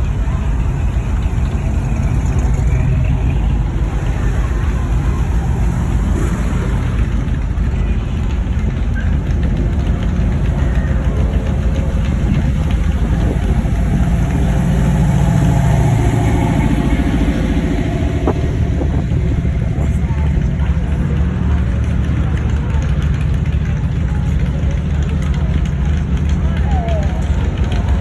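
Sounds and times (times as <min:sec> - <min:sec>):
car engines rumbling: 0:00.0 - 0:28.0.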